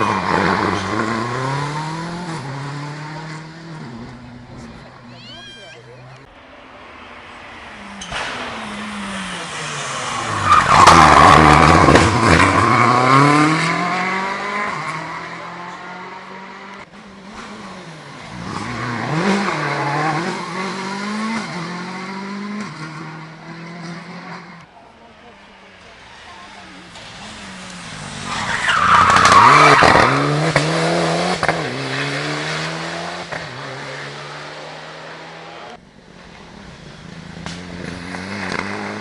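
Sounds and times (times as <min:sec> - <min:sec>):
distant car revving through gears: 0:00.0 - 0:04.7, 0:08.0 - 0:24.7, 0:27.1 - 0:35.8, 0:37.0 - 0:39.0
rally car engine passing: 0:00.0 - 0:05.2, 0:05.8 - 0:39.0.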